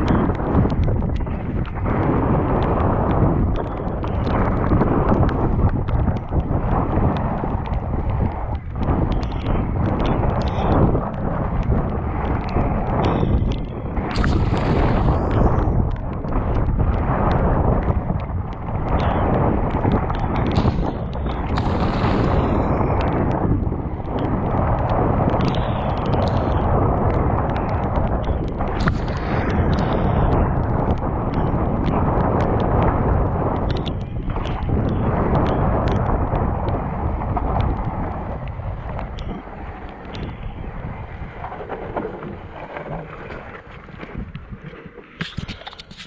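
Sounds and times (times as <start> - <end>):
bike clicks and rattles: 0.0 - 46.0
wind buffeting microphone: 0.0 - 46.0.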